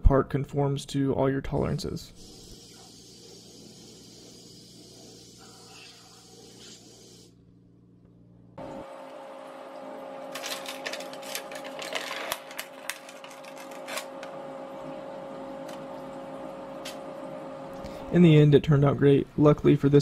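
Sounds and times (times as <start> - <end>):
steady machine hum: 2.1 - 20.0.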